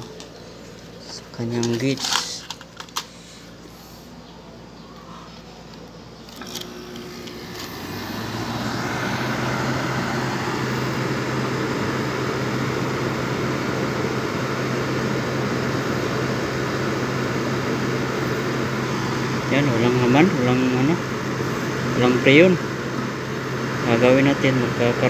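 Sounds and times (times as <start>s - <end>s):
air conditioner humming: 0.0s - 25.0s.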